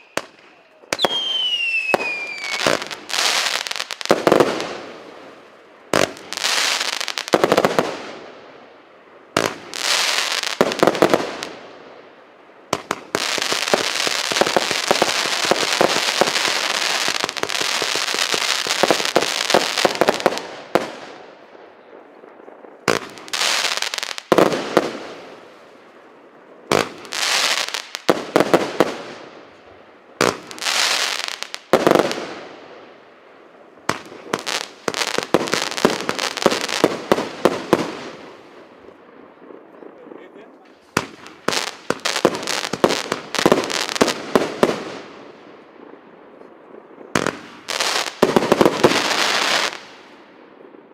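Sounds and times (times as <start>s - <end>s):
fireworks cake firing: 0.0s - 11.8s, 12.6s - 32.7s, 33.5s - 50.9s.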